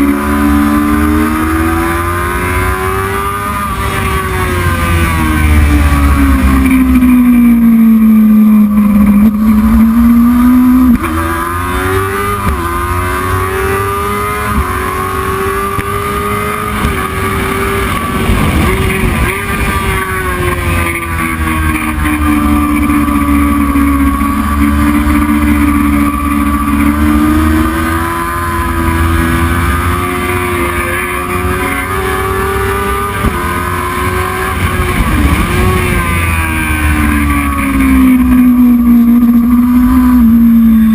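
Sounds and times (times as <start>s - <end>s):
racing motorcycle engine: 0.0s - 40.9s.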